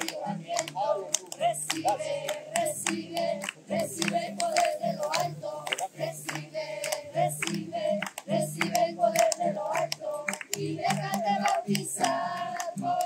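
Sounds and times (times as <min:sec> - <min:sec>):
congregation singing: 0:00.0 - 0:13.0
people clapping in time: 0:00.0 - 0:13.0.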